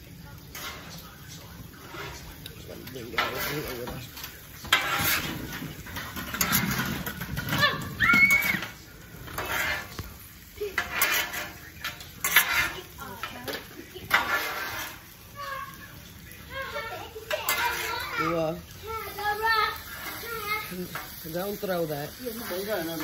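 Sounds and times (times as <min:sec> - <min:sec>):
metal utensils clattering on griddle: 0:00.2 - 0:23.0.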